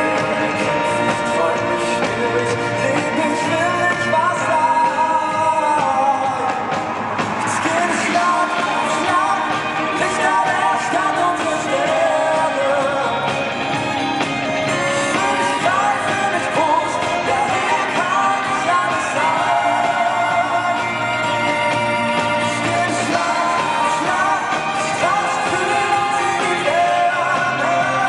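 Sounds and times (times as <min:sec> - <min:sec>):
pop music with singing voice: 0:00.0 - 0:28.0.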